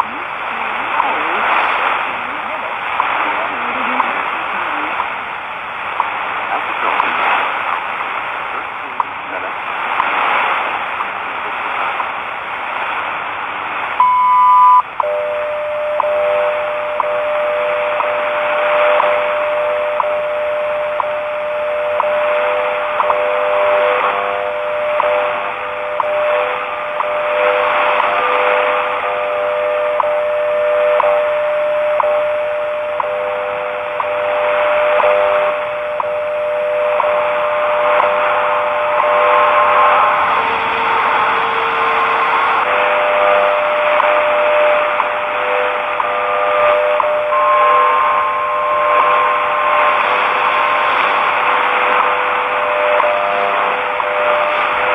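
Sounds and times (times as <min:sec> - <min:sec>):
radio static hiss: 0:00.0 - 0:54.9
steady audio tones: 0:00.0 - 0:54.9.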